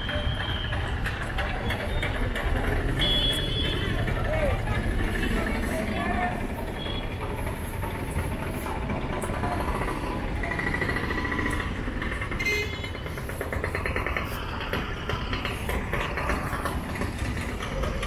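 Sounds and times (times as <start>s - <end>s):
auto-rickshaw engines chugging: 0.0s - 18.0s
traffic rumble: 0.0s - 18.0s.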